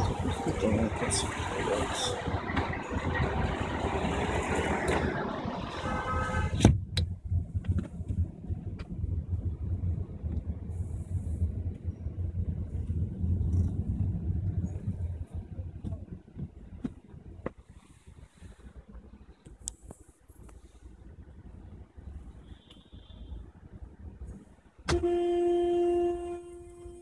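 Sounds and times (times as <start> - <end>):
low rumble of car: 0.0 - 27.0
street traffic noise: 0.0 - 27.0.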